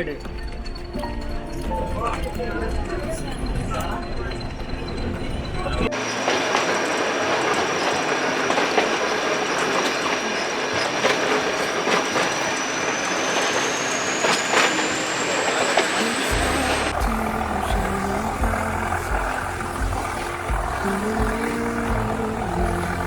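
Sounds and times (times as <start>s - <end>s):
high wheel squeal: 3.3s - 23.0s
train wheels clattering over rail joints: 4.4s - 23.0s.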